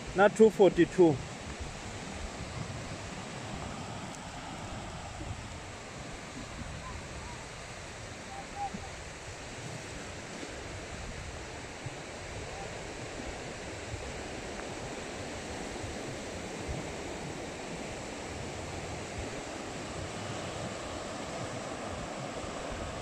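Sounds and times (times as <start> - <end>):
wind buffeting microphone: 1.1 - 23.0.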